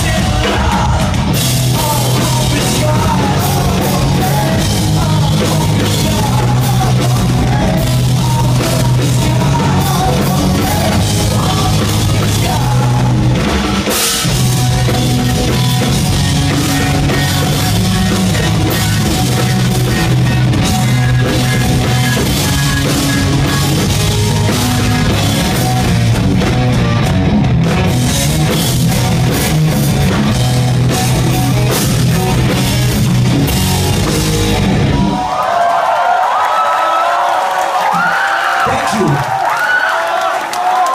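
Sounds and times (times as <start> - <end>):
bass guitar: 0.0 - 35.4
drum kit: 0.0 - 35.4
electric guitars: 0.0 - 35.4.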